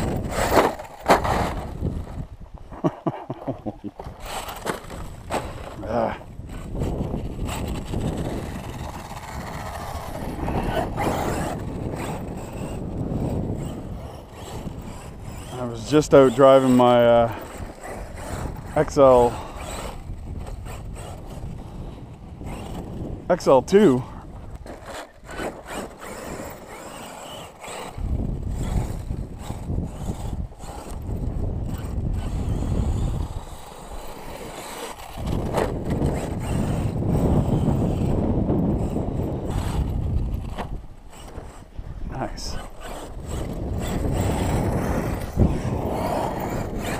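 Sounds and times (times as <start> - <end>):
wind buffeting microphone: 0.0 - 2.8, 3.6 - 46.9
hand scraping toy truck: 0.0 - 46.9.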